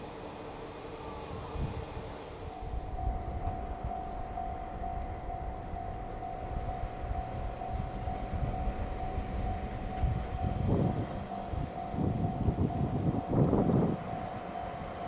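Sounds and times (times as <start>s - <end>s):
diesel railcar rumbling: 0.0s - 15.0s.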